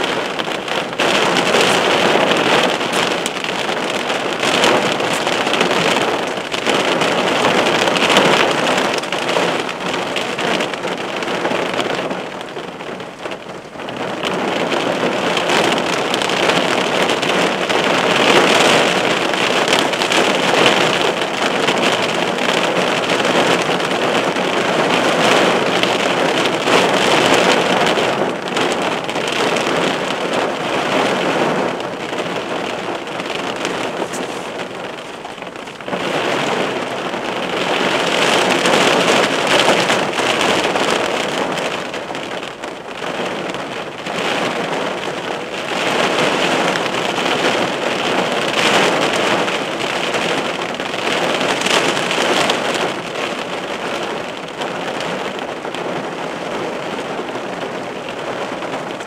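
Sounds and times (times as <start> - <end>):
heavy rain pelting a car: 0.0 - 59.0.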